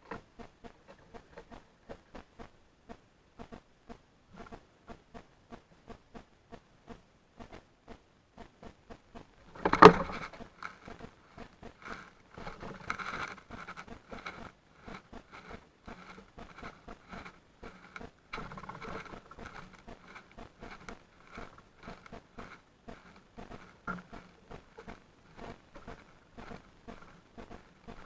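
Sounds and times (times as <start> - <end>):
birds pecking seed in feeder: 0.0 - 28.0.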